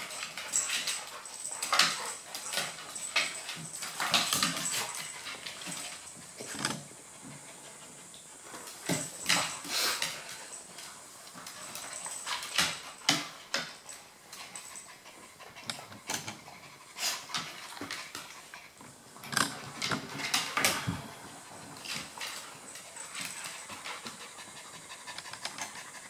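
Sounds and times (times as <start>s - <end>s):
dogs breathing and scuffling: 0.0s - 26.0s.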